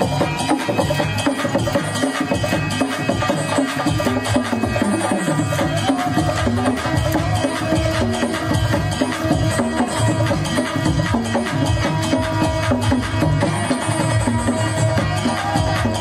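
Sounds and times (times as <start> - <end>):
devotional dance music over loudspeakers: 0.0 - 16.0.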